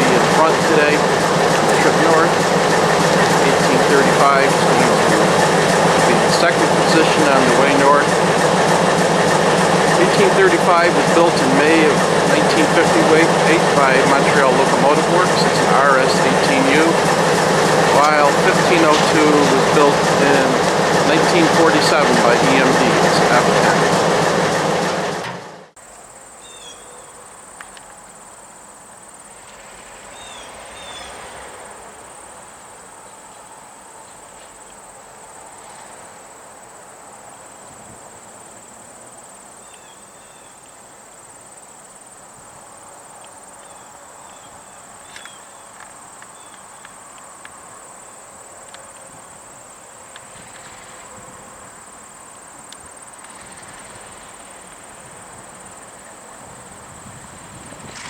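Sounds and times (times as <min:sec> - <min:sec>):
insects trilling: 0:00.0 - 0:25.0, 0:25.8 - 0:58.0.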